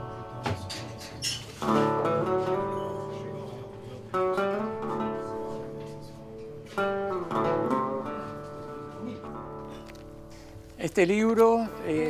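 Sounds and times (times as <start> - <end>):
slow guitar chords ringing: 0.0 - 12.0.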